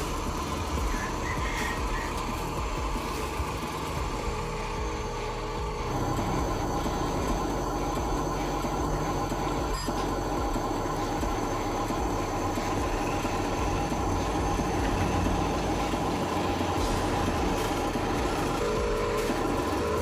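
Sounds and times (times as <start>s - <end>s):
toy truck motors whining: 0.0s - 20.0s.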